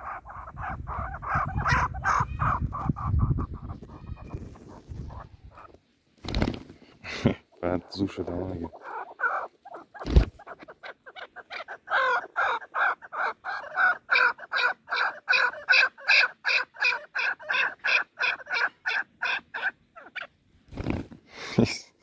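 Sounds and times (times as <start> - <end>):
partridge calling: 0.0 - 5.8, 7.5 - 20.4.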